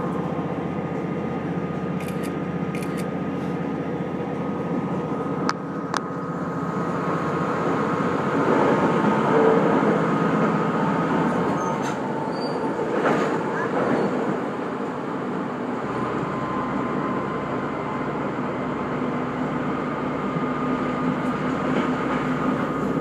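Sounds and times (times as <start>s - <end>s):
train engine drone: 0.0s - 23.0s
wheel and rail rumble: 0.0s - 23.0s.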